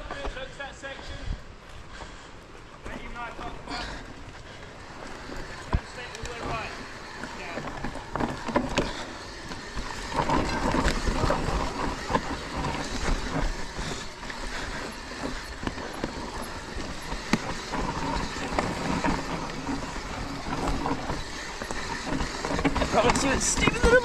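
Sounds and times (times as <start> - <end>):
bike rattling over bumps: 0.0 - 24.0
tyres rolling over dirt: 0.0 - 24.0.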